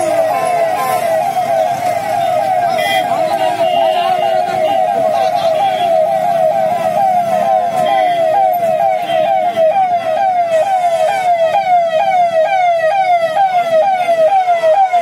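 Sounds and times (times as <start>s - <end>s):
electronic siren yelping: 0.0s - 15.0s.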